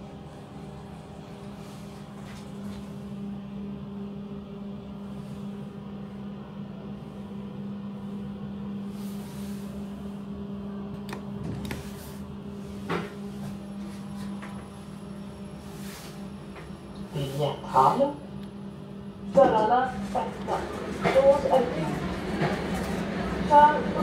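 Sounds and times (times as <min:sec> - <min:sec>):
elevator electric hum: 0:00.0 - 0:24.0.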